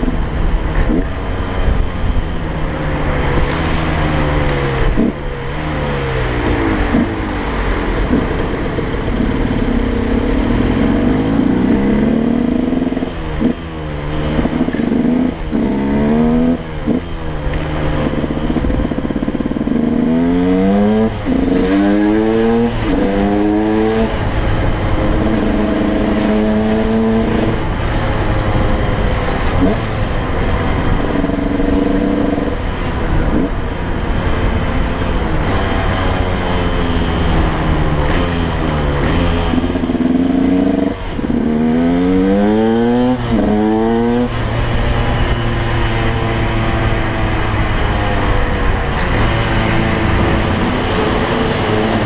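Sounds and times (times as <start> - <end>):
two-stroke motorcycle engine revving: 0.0 - 52.0
wind noise on microphone: 0.0 - 52.0.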